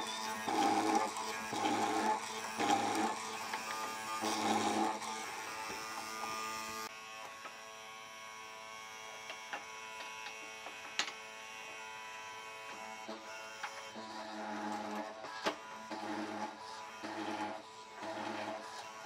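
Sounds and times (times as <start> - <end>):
chisel cutting wood: 0.0 - 7.8, 8.9 - 19.0
electric motor buzzing hum: 0.0 - 19.0.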